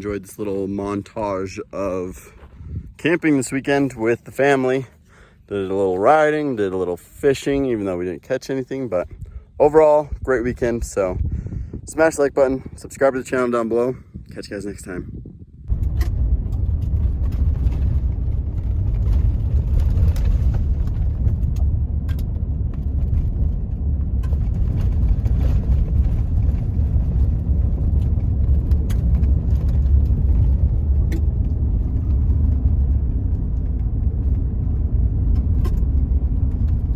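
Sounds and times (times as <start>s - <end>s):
vehicle rumbling: 0.0s - 36.9s.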